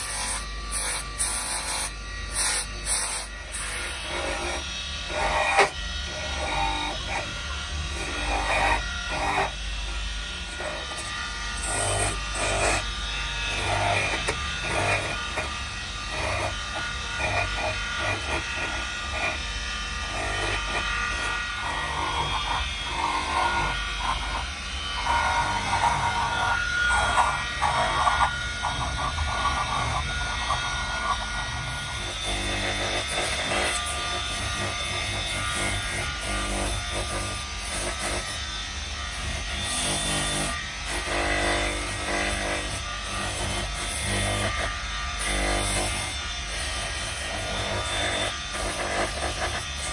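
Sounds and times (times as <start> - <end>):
burr grinding wood: 0.0 - 49.9
rotary tool humming: 0.0 - 49.9.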